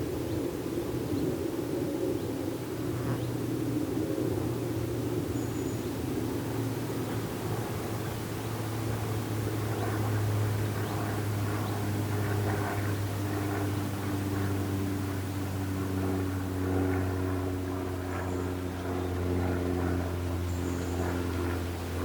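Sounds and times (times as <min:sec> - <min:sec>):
rush of wind: 0:00.0 - 0:22.0
engine drone: 0:03.1 - 0:22.0.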